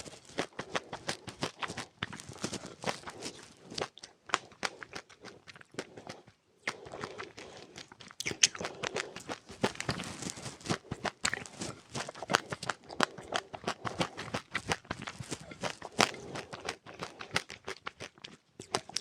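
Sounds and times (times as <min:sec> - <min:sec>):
chewing crunchy seeds: 0:00.0 - 0:19.0.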